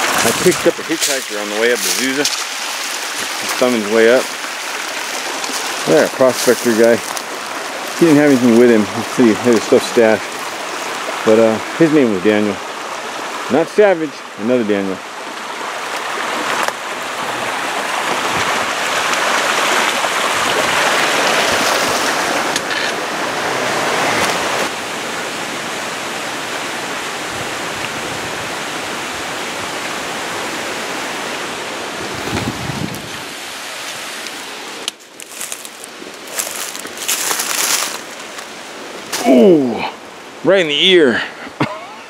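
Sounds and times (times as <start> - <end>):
waterfall rushing and splashing: 0.0 - 42.0.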